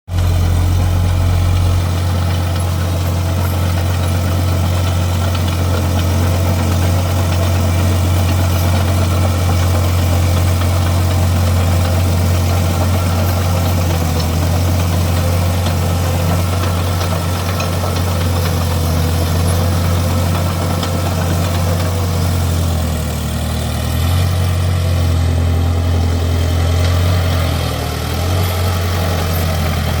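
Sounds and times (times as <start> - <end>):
bulldozer diesel engine droning: 0.1 - 30.0.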